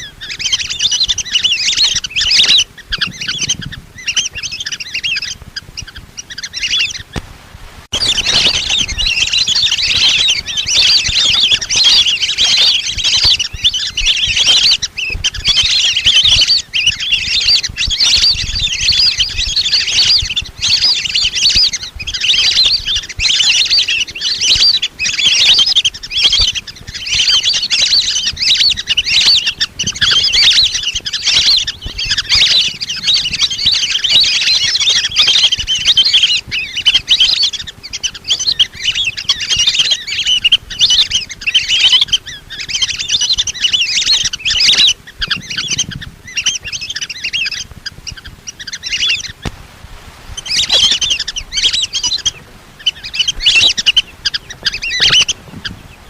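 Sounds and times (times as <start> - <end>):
ducks whistling in chorus: 0.0 - 7.2, 7.9 - 49.6, 50.3 - 56.0.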